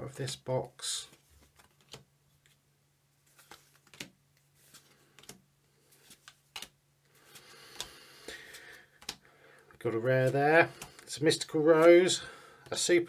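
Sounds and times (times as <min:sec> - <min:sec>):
trading cards clicking and rustling: 0:01.1 - 0:02.6, 0:03.3 - 0:12.9.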